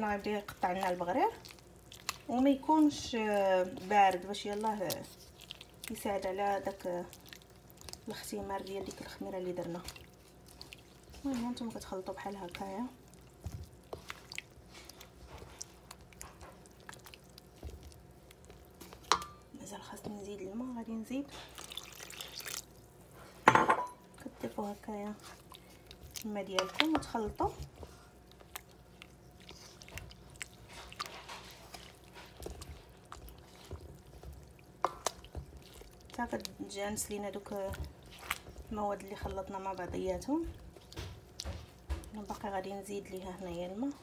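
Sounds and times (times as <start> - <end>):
spoon stirring thick batter: 0.0 - 23.4, 24.2 - 44.0.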